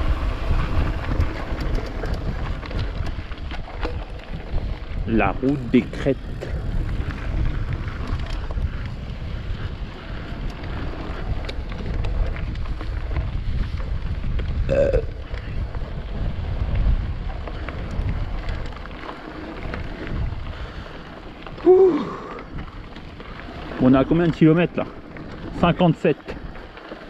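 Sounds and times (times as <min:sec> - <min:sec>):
tyre rumble: 0:00.0 - 0:26.8
bike rattling over stones: 0:00.0 - 0:27.0
wind buffeting microphone: 0:00.0 - 0:27.0.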